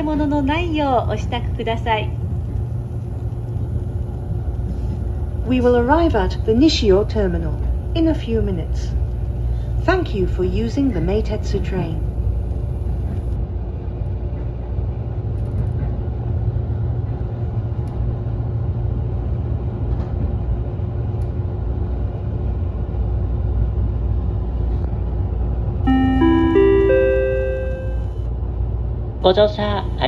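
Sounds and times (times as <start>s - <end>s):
train running rumble: 0.0s - 30.0s.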